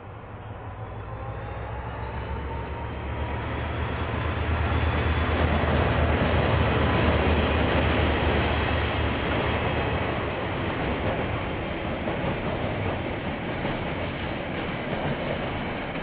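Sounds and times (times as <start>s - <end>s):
diesel locomotive rumble: 0.0s - 16.0s.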